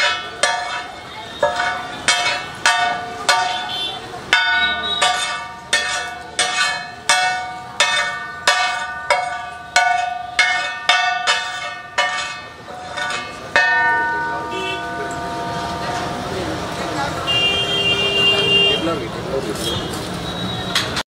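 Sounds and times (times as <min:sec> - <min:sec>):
metal spatula clanging on griddle: 0:00.0 - 0:18.0.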